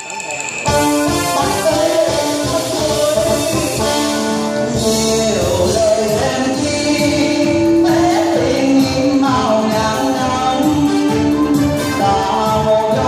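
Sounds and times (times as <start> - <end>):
stage show music with steady beat: 0.0 - 13.0.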